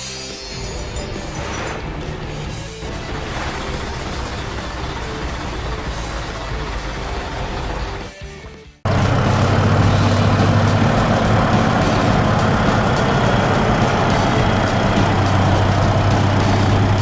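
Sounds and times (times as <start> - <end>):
heavy truck engine running: 2.1 - 8.1, 8.8 - 17.0.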